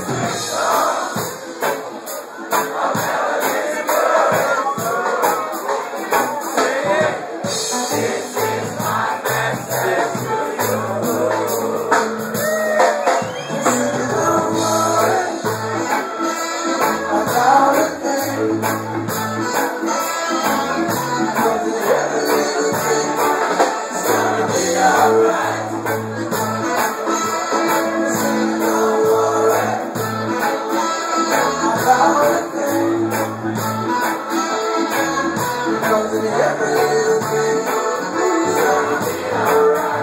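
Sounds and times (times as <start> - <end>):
reggae band playing: 0.0 - 40.0
person singing: 6.6 - 40.0.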